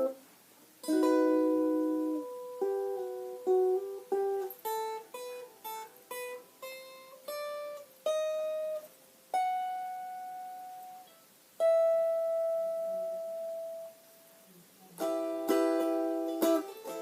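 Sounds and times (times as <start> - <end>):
plucked string instrument: 0.0 - 0.2, 0.8 - 14.2, 14.9 - 17.0.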